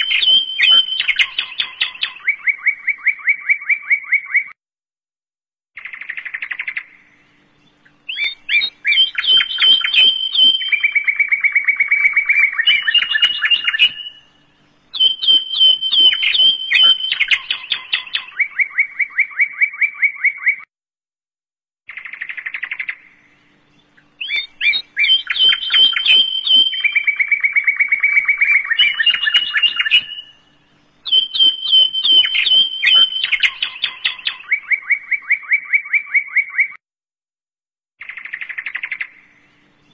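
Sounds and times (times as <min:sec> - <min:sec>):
rapid bird-like chirps and trills: 0:00.0 - 0:04.6, 0:05.8 - 0:20.7, 0:21.9 - 0:36.8, 0:38.0 - 0:39.9.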